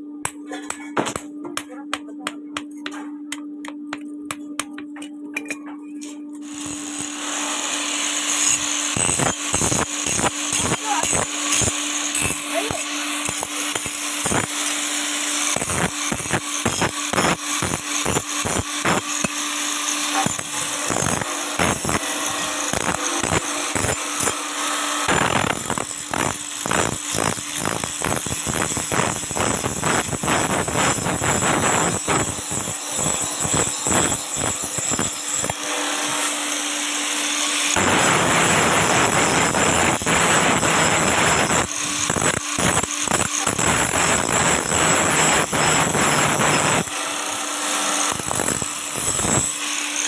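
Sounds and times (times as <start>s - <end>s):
power tool motor hum: 6.3s - 50.0s
tool rasping on metal: 6.4s - 50.0s.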